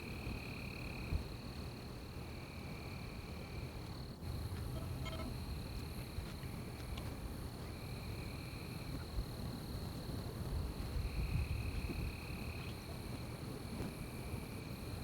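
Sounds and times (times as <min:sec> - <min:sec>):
constant low rumble: 0:00.0 - 0:15.0
crickets trilling: 0:00.0 - 0:15.0
lower-pitched insect call: 0:00.0 - 0:15.0.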